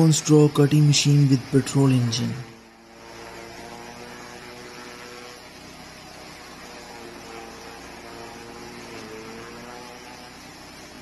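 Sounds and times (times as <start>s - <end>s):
small petrol engine humming: 0.0s - 11.0s.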